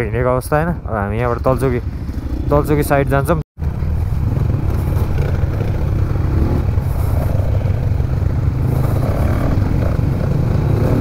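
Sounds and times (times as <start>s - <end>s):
motorcycle engine rumbling: 0.0s - 11.0s
riding noise: 0.0s - 11.0s.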